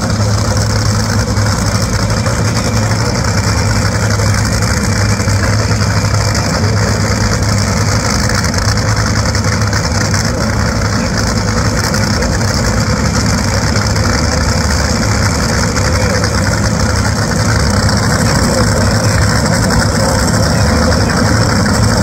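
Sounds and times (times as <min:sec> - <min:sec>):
dragster engines idling loudly: 0:00.0 - 0:22.0.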